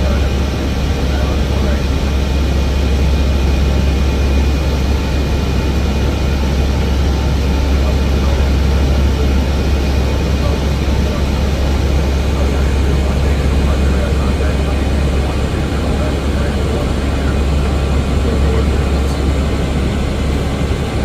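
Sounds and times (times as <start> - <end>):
airliner low rumble and hiss: 0.0 - 21.0.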